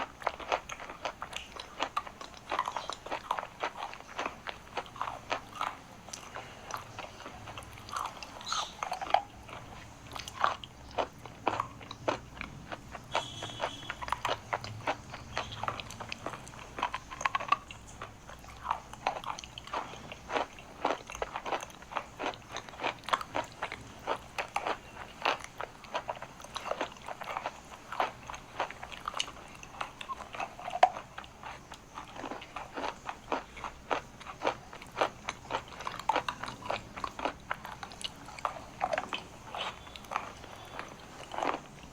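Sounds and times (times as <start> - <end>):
chalk being chewed: 0.0 - 41.9.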